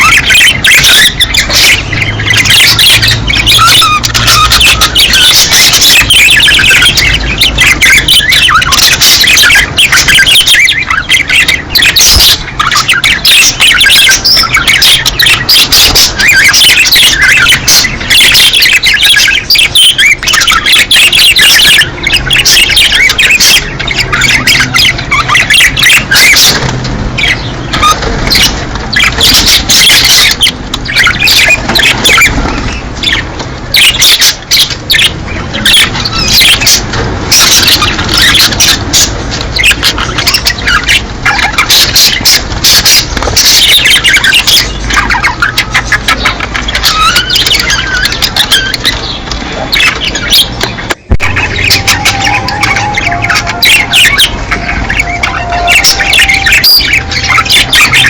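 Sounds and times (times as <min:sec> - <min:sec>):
budgerigars chattering: 0:00.0 - 0:58.0
low steady hum: 0:00.0 - 0:58.0.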